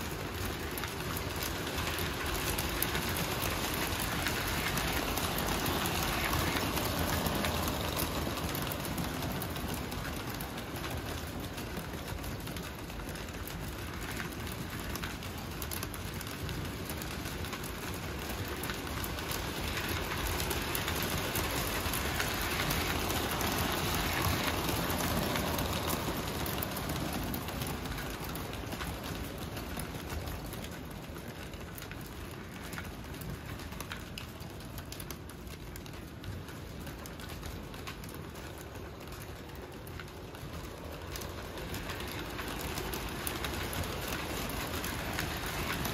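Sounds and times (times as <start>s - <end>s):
toy trains rumbling on metal track: 0.0s - 45.9s.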